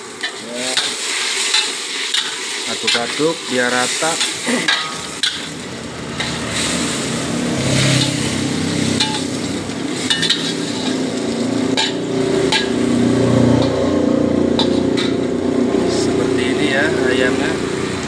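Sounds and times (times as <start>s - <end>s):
chicken sizzling in a wok: 0.0s - 18.0s
metal spatula scraping a pan: 0.2s - 15.4s.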